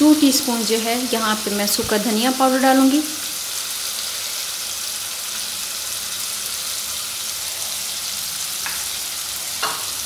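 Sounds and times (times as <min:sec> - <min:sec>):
food sizzling in a saucepan: 0:00.0 - 0:10.0.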